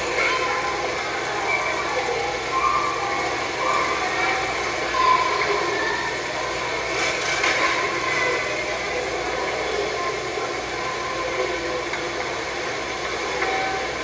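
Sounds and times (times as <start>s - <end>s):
faint indistinct voices: 0.0s - 14.0s
noisy room din: 0.0s - 14.0s.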